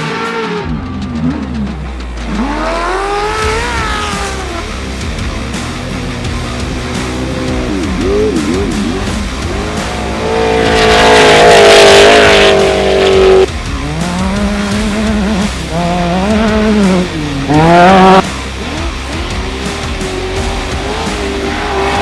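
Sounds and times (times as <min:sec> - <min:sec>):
race engine revving: 0:00.0 - 0:22.0.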